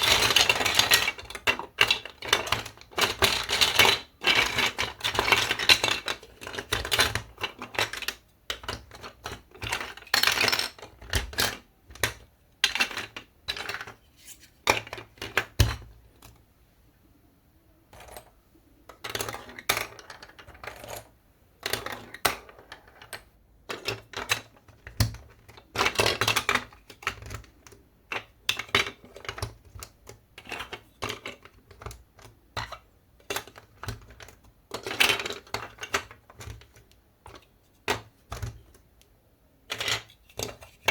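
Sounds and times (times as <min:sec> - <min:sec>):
marble-run pieces clacking: 0:00.0 - 0:16.4, 0:17.9 - 0:39.0, 0:39.6 - 0:40.9.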